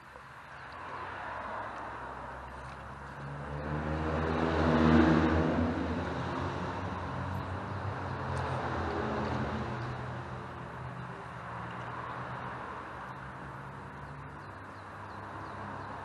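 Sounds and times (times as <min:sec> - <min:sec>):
traffic rumbling over bridge: 0:00.0 - 0:16.0.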